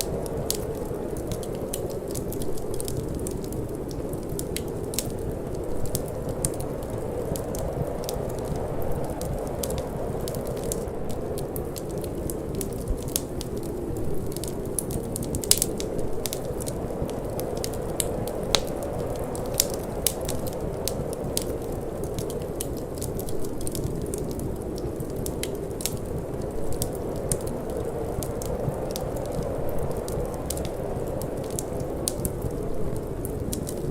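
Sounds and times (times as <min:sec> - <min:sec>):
low rumble of flame: 0:00.0 - 0:33.9
wood fire crackling: 0:00.0 - 0:33.9.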